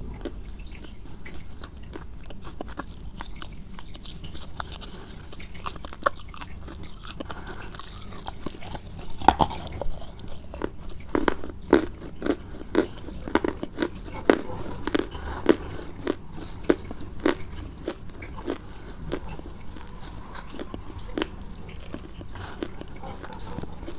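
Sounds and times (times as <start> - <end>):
crunchy food being chewed: 0.0 - 23.9.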